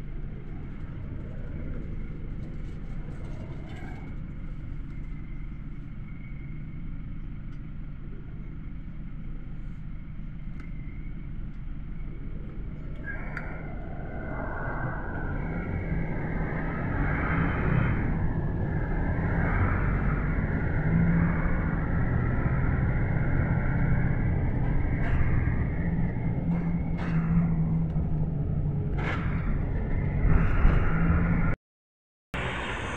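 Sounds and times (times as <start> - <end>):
minibus engine hum: 0.0 - 31.6, 32.4 - 32.9
road noise: 0.0 - 31.6, 32.4 - 32.9.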